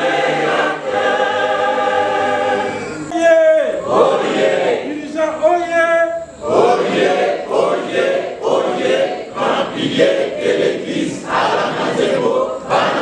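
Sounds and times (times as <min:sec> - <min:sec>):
choir singing: 0:00.0 - 0:03.1, 0:03.7 - 0:04.9, 0:06.4 - 0:13.0.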